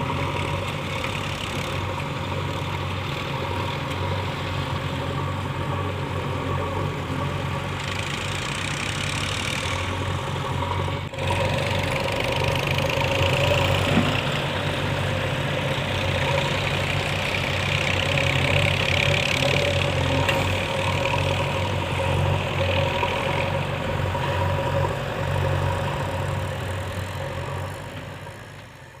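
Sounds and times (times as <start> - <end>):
backhoe diesel engine running: 0.0 - 29.0.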